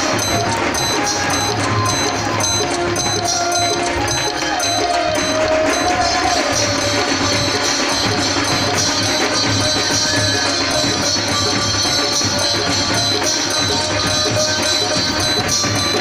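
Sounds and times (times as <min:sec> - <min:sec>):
music with percussion: 0:00.0 - 0:16.0
wavering melody line: 0:00.0 - 0:16.0.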